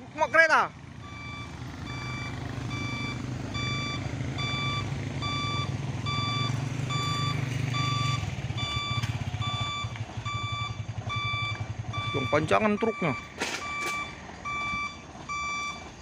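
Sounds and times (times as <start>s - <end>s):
diesel engine droning: 0.0s - 16.0s
truck reverse alarm beeping: 0.0s - 16.0s.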